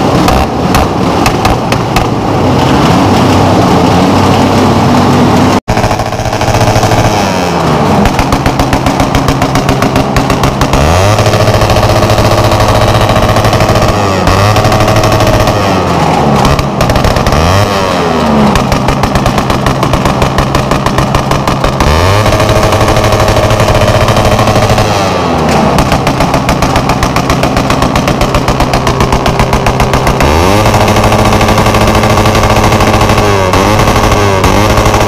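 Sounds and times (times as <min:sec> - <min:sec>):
crackling exhaust pulses: 0:00.0 - 0:35.0
motorcycle engine revving: 0:00.0 - 0:35.0.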